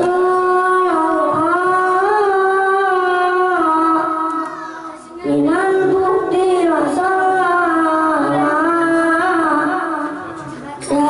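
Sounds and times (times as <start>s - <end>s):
boy singing into a microphone: 0.0s - 11.0s.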